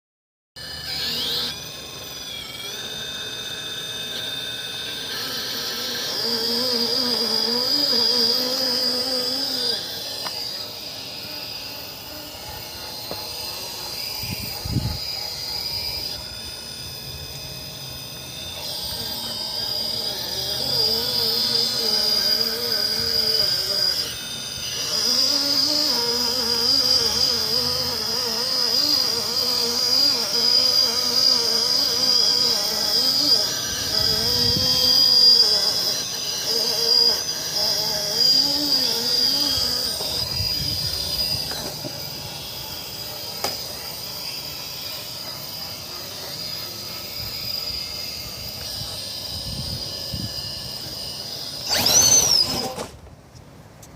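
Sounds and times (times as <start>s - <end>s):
rc car motor whining: 0.6s - 53.1s
steady high-pitched whine: 0.6s - 53.9s.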